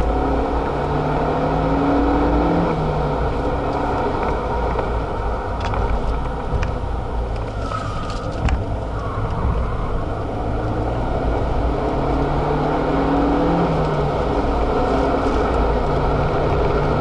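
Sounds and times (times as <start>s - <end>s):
car engine under way: 0.0s - 17.0s
tyre and road noise: 0.0s - 17.0s.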